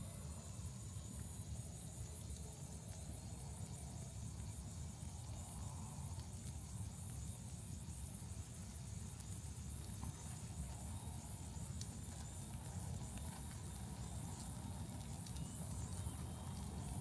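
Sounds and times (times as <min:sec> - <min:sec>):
burning wood crackles and pops: 0:00.0 - 0:17.0
wood fire rumbling and hissing: 0:00.0 - 0:17.0.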